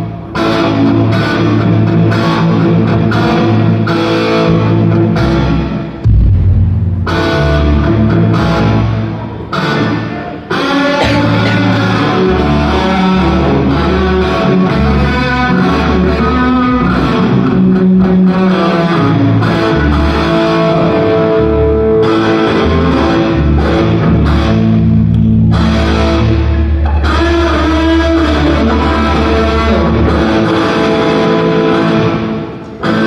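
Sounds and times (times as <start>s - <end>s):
loud rock music: 0.0s - 33.0s.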